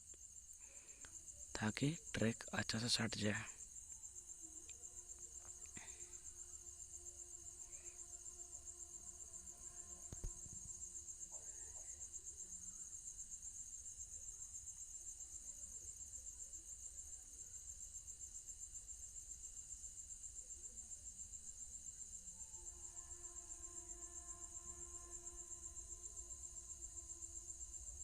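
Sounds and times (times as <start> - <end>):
faint low hum: 0.0 - 17.6, 19.2 - 28.0
cricket trilling: 0.0 - 28.0.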